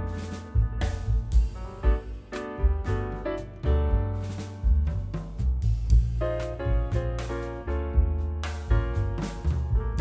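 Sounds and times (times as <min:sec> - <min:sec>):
instrumental music with drum kit: 0:00.0 - 0:10.0.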